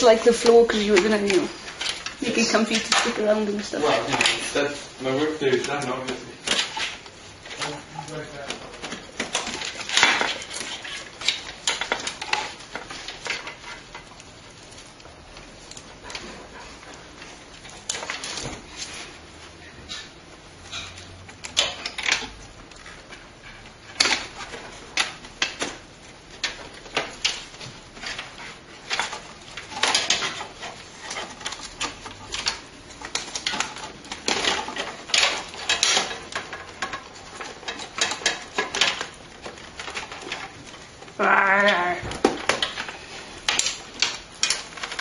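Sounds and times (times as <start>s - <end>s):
computer parts clicking and scraping: 0.0s - 45.0s.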